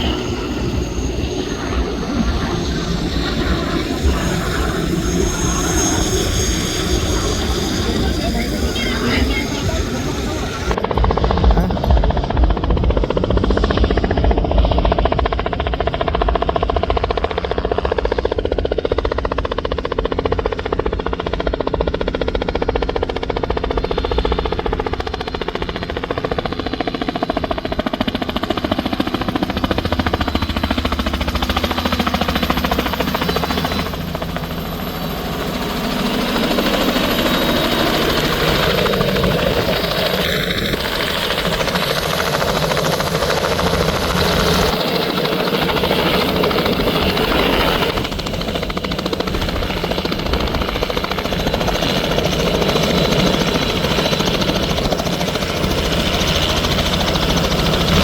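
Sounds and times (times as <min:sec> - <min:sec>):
helicopter rotor chopping: 0:00.0 - 0:58.0
turbine engine whine: 0:00.0 - 0:58.0.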